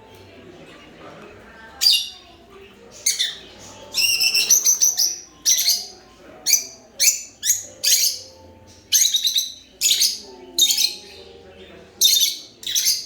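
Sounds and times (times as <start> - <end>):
lovebirds chirping: 1.6 - 13.0.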